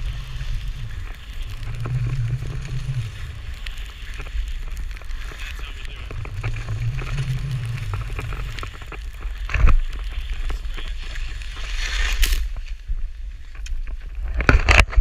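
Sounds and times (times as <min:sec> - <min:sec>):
skis sliding on snow: 0:00.0 - 0:14.4
wind buffeting microphone: 0:00.0 - 0:15.0.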